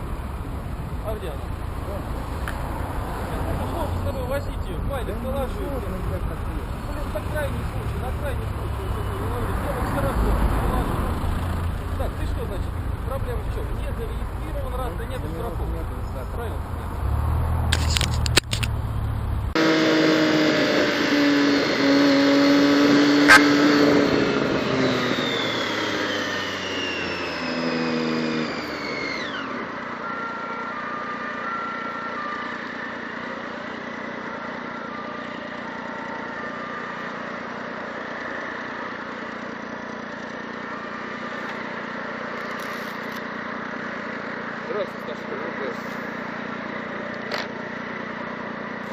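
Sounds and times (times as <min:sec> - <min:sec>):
motorcycle engine running: 0:00.0 - 0:48.9
road noise: 0:00.0 - 0:48.9.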